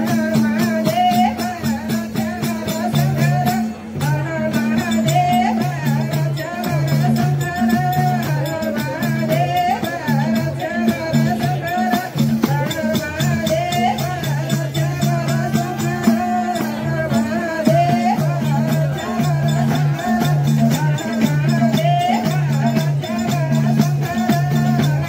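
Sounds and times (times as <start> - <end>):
hand drums: 0.0 - 25.0
person singing: 0.0 - 25.0
rattling percussion: 0.0 - 25.0.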